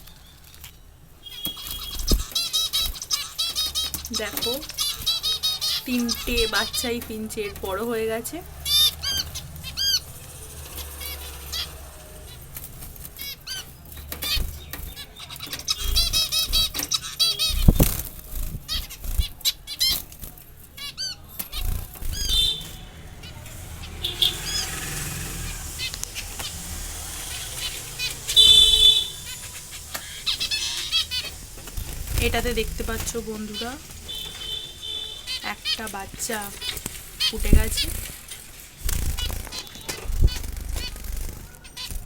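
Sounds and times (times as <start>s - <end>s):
finches chirping: 0.0s - 42.0s
wings fluttering: 0.0s - 42.0s.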